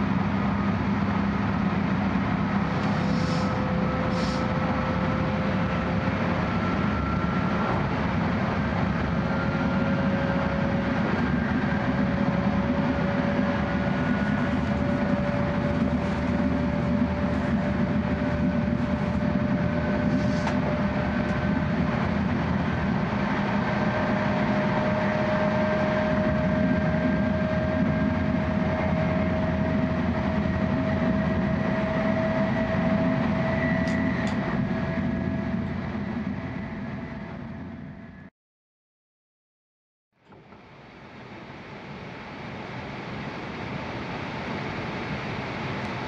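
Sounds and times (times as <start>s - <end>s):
train cabin low rumble: 0.0s - 38.3s.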